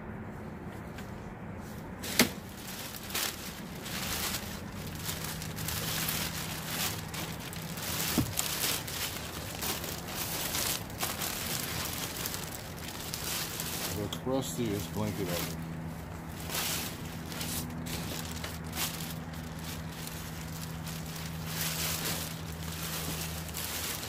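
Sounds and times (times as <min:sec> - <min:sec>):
plastic bags rustling: 0:02.0 - 0:24.0.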